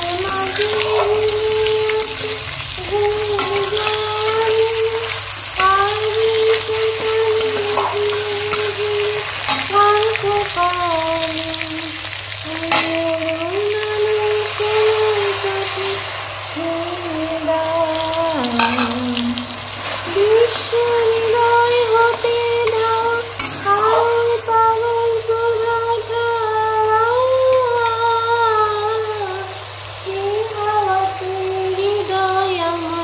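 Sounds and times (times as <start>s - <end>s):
food frying and sizzling: 0.0s - 33.0s
woman singing: 0.0s - 33.0s.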